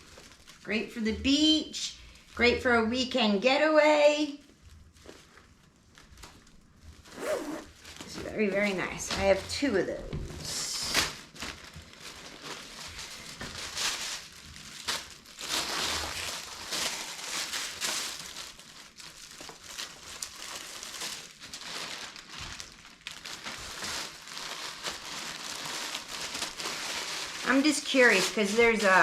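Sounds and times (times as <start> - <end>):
plastic packaging crinkling: 0.0 - 2.7, 4.4 - 9.8, 10.8 - 29.0.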